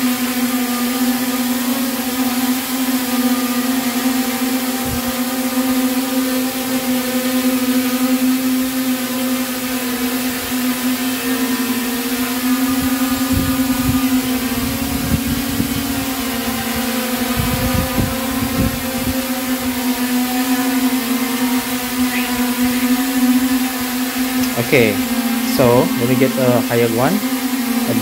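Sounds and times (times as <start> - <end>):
quadcopter propellers buzzing: 0.0 - 28.0.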